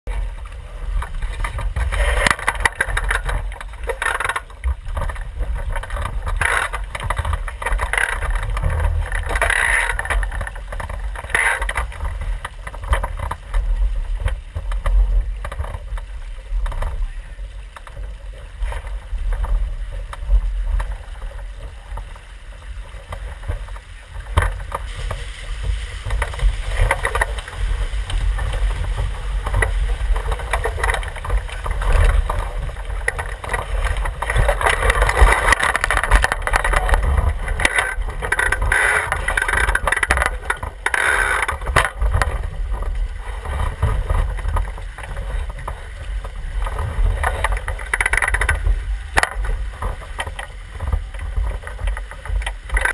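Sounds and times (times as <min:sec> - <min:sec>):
water rushing along hull: 0:00.1 - 0:52.9
wind rumble on microphone: 0:00.1 - 0:52.9.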